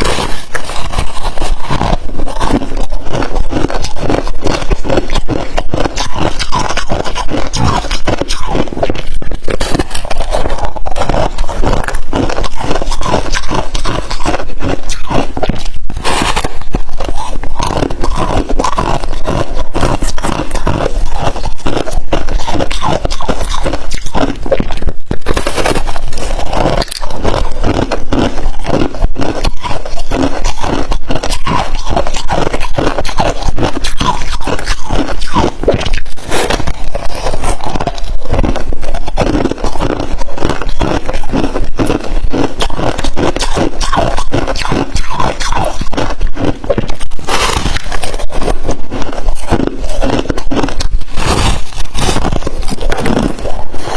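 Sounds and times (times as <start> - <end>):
freezer frost crunching: 0.0 - 53.9.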